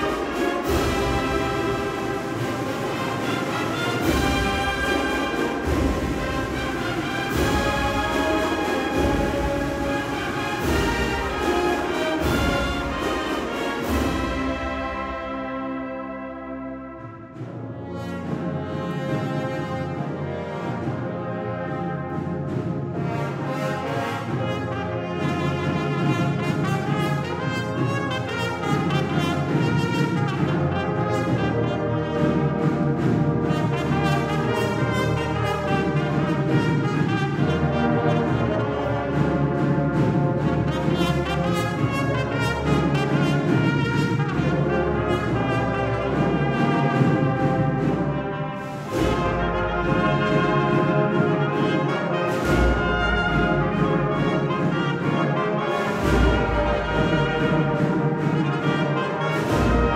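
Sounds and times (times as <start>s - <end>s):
brass band playing: 0.0s - 59.9s.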